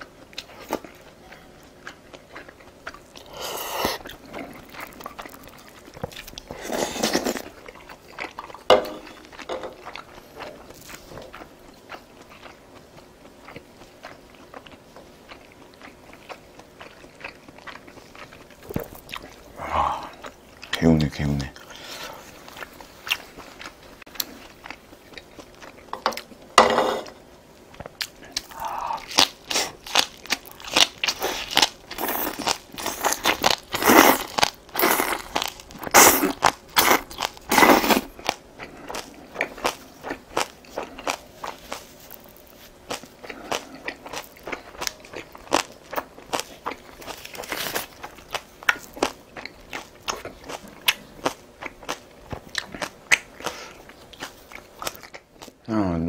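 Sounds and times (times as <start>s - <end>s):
person chewing food: 0.0s - 55.7s.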